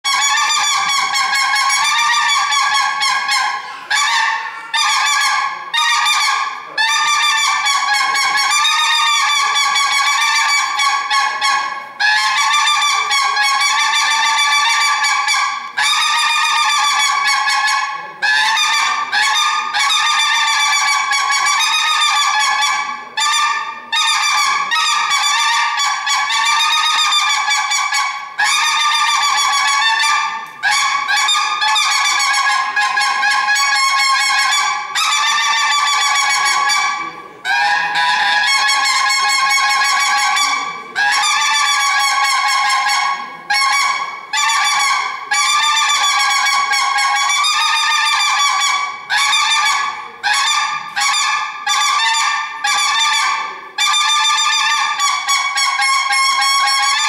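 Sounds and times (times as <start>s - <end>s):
reedy honking tone: 0.0s - 57.0s.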